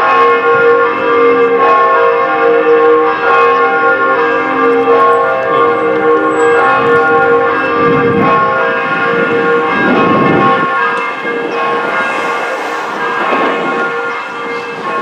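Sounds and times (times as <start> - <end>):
bells ringing: 0.0 - 15.0.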